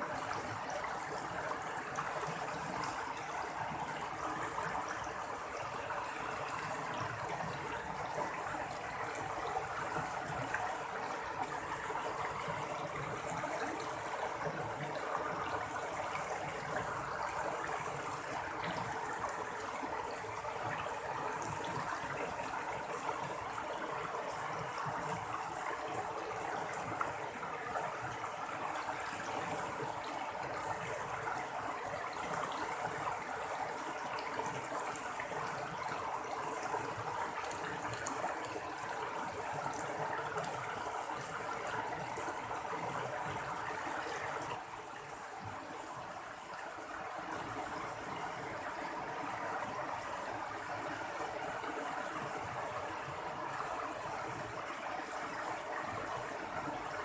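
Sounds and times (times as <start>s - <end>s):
stream babbling and splashing: 0.0s - 57.0s.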